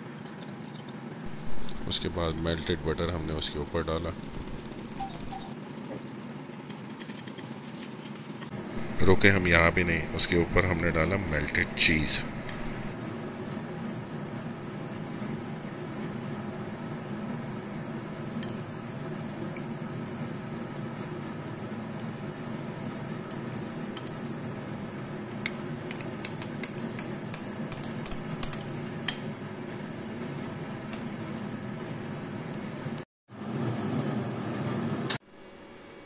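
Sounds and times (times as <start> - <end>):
steady background hum: 0.0 - 36.0.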